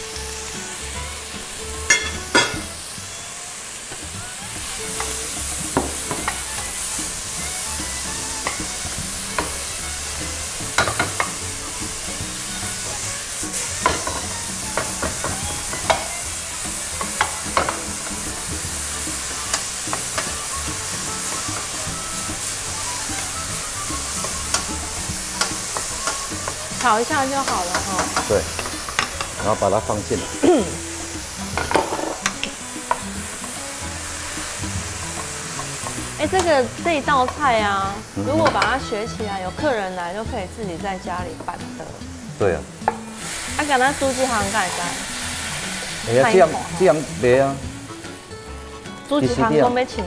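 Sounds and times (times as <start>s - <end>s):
mushrooms sizzling in frying pan: 0.0s - 50.0s.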